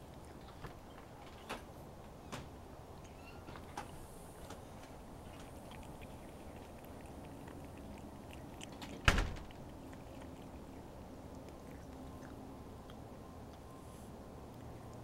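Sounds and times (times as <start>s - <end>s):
cat lapping milk: 2.8s - 15.0s.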